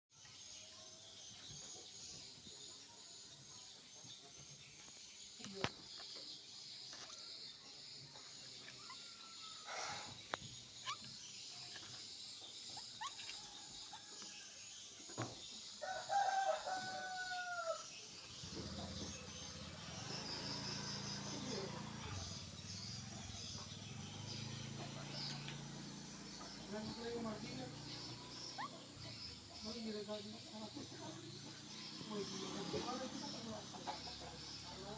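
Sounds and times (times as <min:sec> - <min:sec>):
insects chirring: 0:00.2 - 0:34.9.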